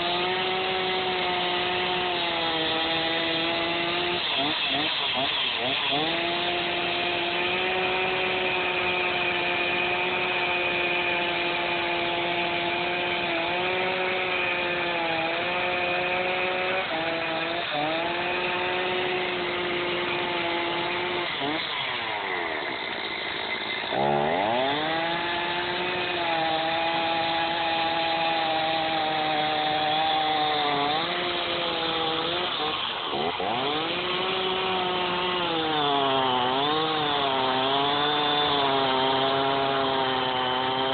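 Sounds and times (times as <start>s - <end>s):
chainsaw cutting into log: 0.0s - 40.9s.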